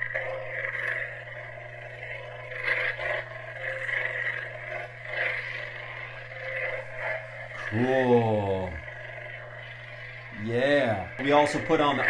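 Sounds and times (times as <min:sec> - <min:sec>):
crackling electric fizz: 0:00.0 - 0:12.0
low electric hum: 0:00.0 - 0:12.0.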